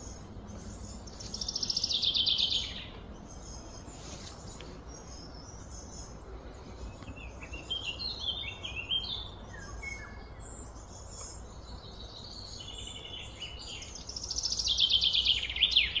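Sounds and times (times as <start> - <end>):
birds singing and chirping: 0.0 - 16.0.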